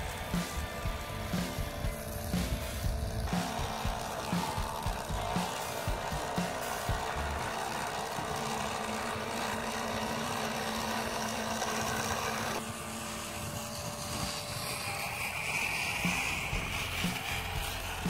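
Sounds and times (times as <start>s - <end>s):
toy electric motor whirring: 0.0s - 18.0s.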